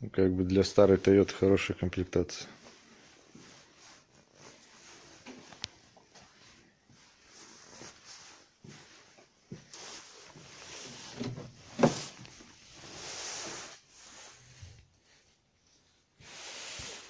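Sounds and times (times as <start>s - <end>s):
rustling: 2.5s - 17.0s.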